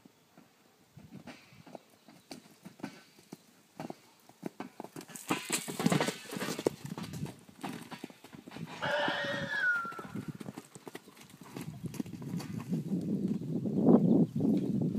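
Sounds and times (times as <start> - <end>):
horse hooves on sand: 0.0 - 13.6.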